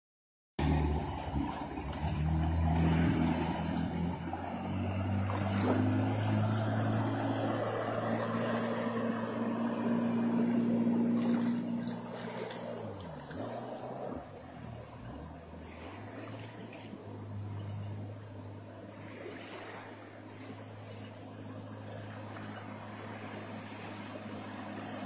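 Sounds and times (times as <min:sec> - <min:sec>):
jet ski engine drone: 0:00.6 - 0:25.0.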